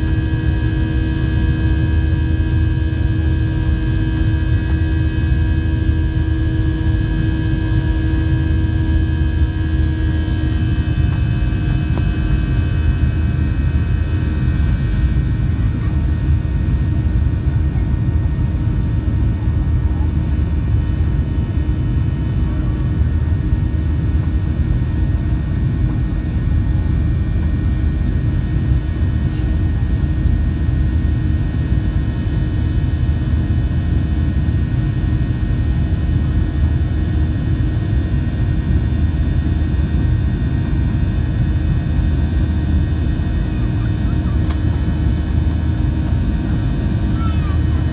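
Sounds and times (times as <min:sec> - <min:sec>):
jet engines roaring in cabin: 0:00.0 - 0:47.9.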